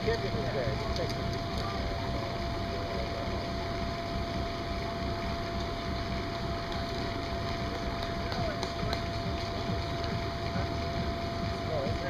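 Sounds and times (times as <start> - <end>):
electric blower fan running: 0.0 - 12.0.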